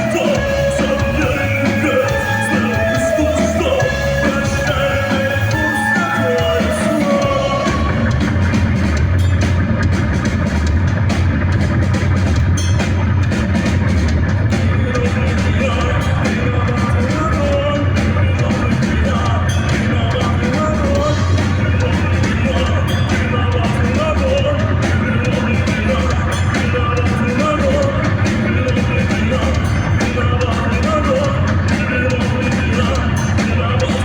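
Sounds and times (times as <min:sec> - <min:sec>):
rock band playing live: 0:00.0 - 0:34.0.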